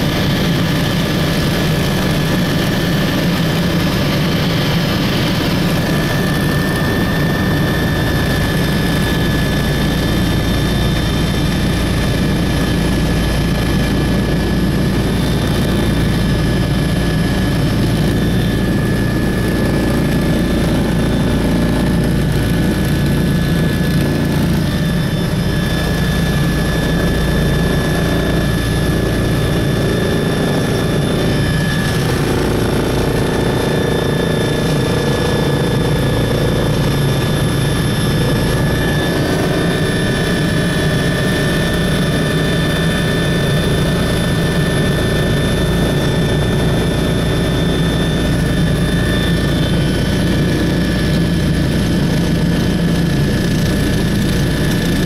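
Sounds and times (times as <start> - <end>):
high-pitched whine: 0.0 - 53.6
helicopter rotor and engine drone: 0.0 - 55.0.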